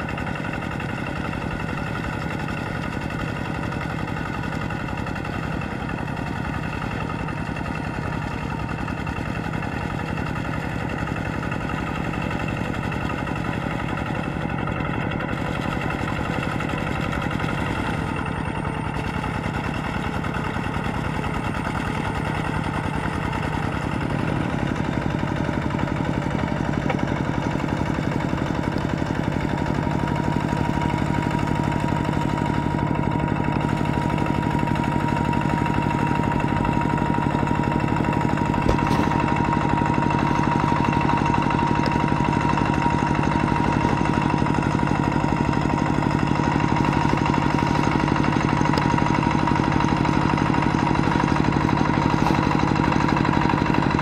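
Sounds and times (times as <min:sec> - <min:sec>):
diesel tractor engine running: 0:00.0 - 0:54.0
wheels churning through mud: 0:00.0 - 0:54.0.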